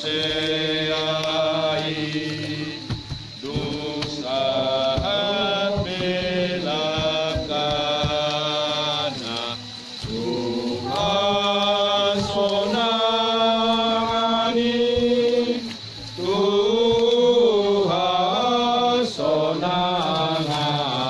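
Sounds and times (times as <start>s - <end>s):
mourners singing a slow hymn: 0.0s - 21.0s.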